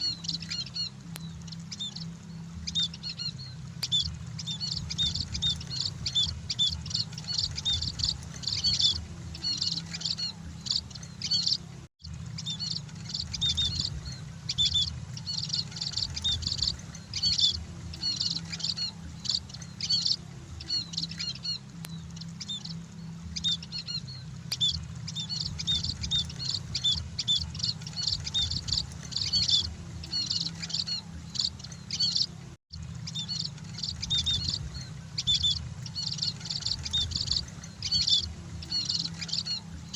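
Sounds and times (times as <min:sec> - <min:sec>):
finches chirping: 0:00.0 - 0:32.4, 0:33.0 - 0:39.9
steady low hum: 0:00.0 - 0:39.9.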